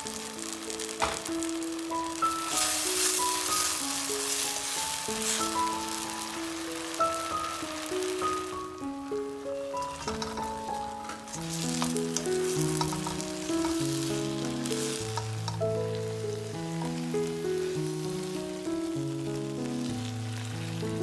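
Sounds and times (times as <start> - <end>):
background music: 0.0 - 21.0
food sizzling in a pan: 0.0 - 21.0.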